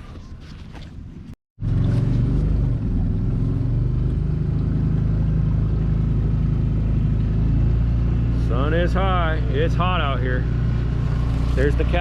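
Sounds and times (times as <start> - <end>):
boat motor running: 1.6 - 12.0.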